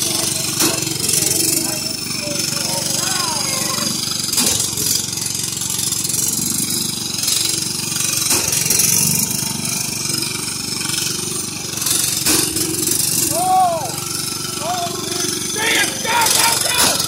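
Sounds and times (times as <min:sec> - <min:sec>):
lawn mower engines running: 0:00.0 - 0:17.0.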